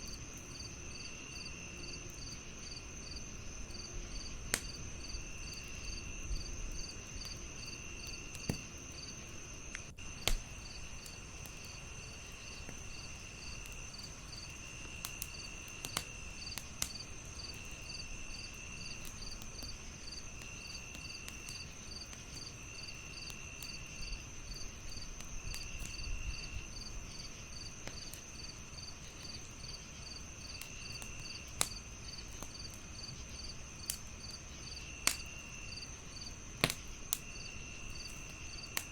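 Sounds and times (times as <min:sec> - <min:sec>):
crickets chirping: 0:00.0 - 0:38.9
wood fire crackling: 0:00.0 - 0:38.9.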